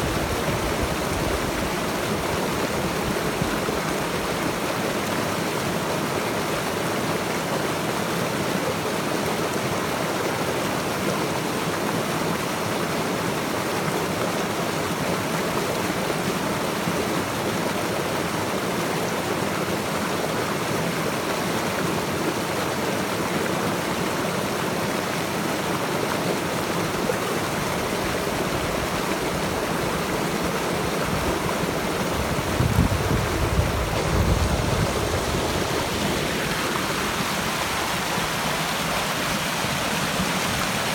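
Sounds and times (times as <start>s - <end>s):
stream running water: 0.0s - 40.9s.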